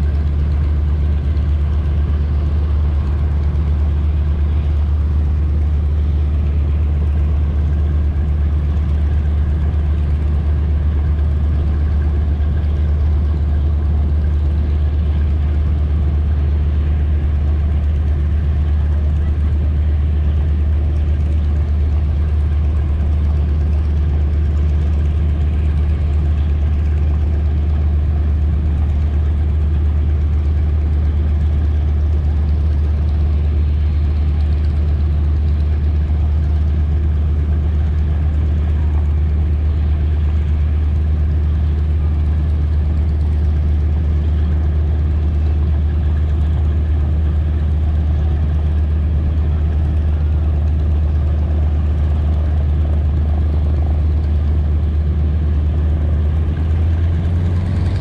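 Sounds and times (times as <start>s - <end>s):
propeller engines droning: 0.0s - 58.0s.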